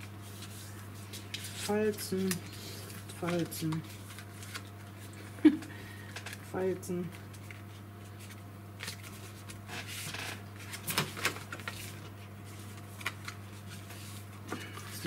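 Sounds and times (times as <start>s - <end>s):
paper rustling and sliding: 0.0s - 5.0s, 7.3s - 15.0s
steady low hum: 0.0s - 15.0s.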